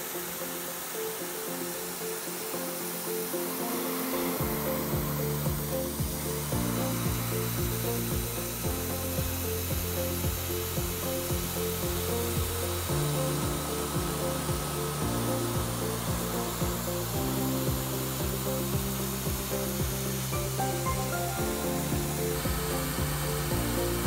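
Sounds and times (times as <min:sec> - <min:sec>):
milling machine cutting metal: 0:00.0 - 0:24.0
background music with bass line: 0:03.6 - 0:24.0.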